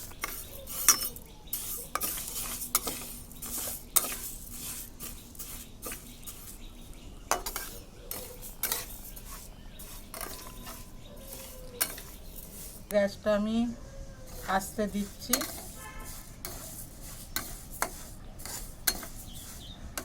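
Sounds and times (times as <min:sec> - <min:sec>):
spatula stirring dry lentils: 0:00.0 - 0:13.1, 0:14.3 - 0:20.0.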